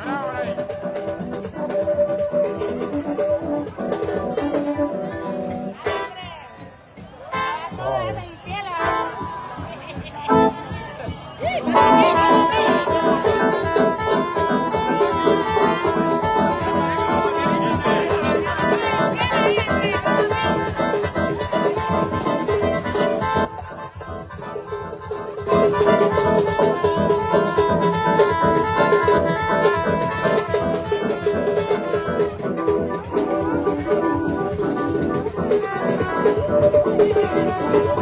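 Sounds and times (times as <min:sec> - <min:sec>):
loud instrumental music: 0:00.0 - 0:06.4, 0:07.4 - 0:38.0.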